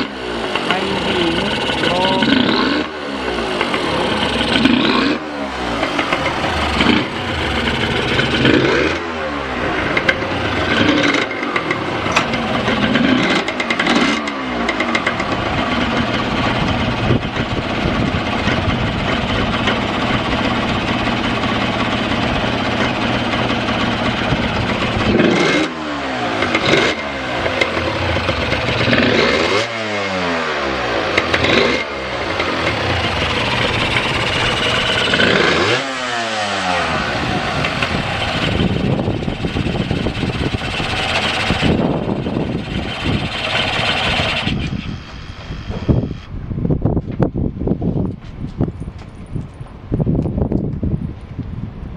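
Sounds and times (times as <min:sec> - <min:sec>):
motorcycle engine revving: 0:00.0 - 0:46.7.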